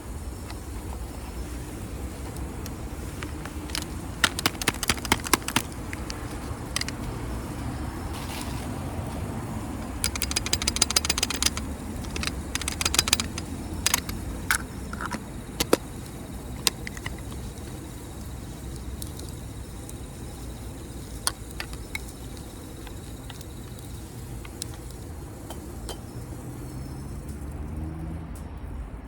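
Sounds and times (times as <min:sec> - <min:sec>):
wood fire crackling: 0:00.0 - 0:27.9
sharp pops and snaps: 0:00.0 - 0:28.1
low rumble of stove: 0:00.0 - 0:28.9.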